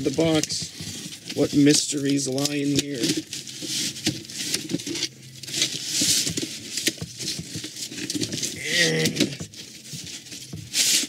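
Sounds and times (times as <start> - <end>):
cardboard flaps rustling and scraping: 0.0 - 11.0.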